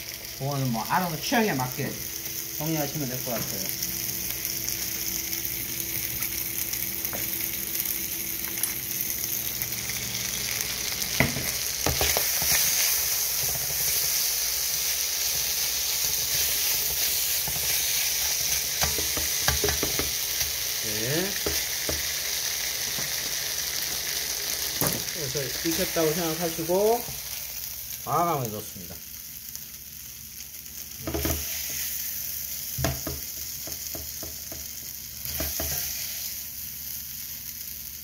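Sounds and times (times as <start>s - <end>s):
meat sizzling in a pan: 0.0s - 38.0s.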